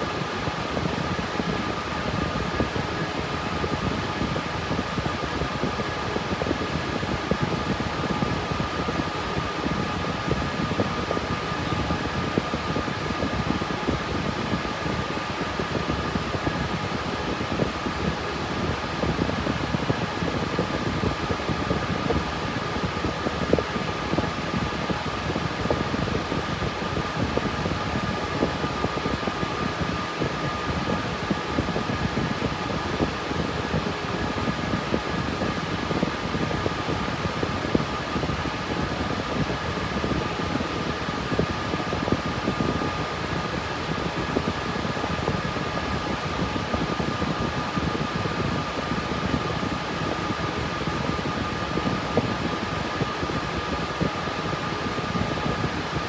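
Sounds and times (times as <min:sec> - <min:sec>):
cooling fans whirring: 0:00.0 - 0:56.0
thin constant whine: 0:00.0 - 0:56.0.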